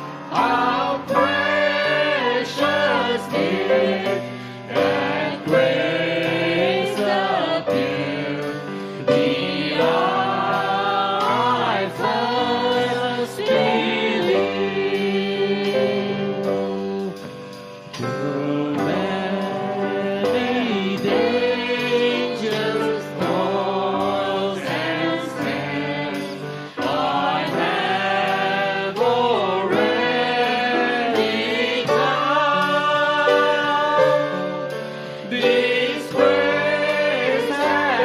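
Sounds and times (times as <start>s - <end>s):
drums: 0.0s - 38.0s
piano: 0.0s - 38.0s
voices singing a worship song: 0.0s - 38.0s.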